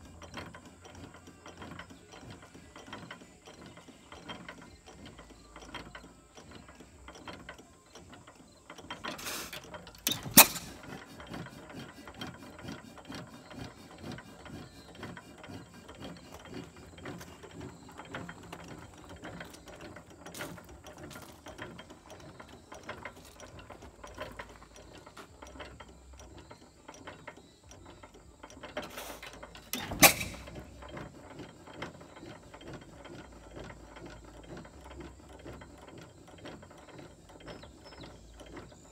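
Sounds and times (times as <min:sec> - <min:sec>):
engine valve gear clicking: 0:00.0 - 0:38.9.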